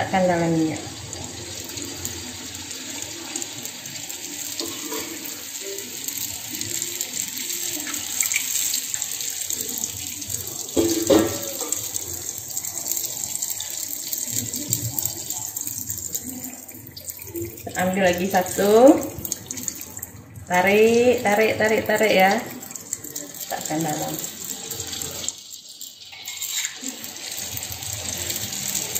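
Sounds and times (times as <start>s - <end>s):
dough deep-frying in hot oil: 0.0s - 28.9s.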